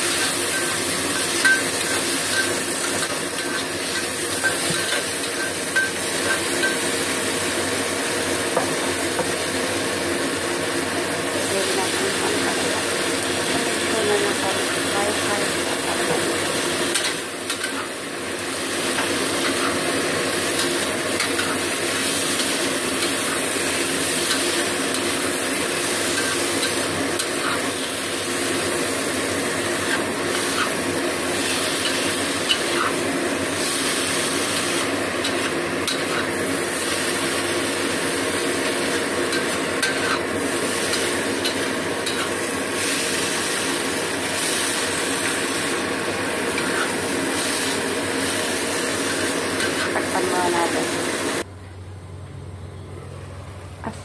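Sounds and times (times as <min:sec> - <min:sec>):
vegetables sizzling in a wok: 0:00.0 - 0:51.5.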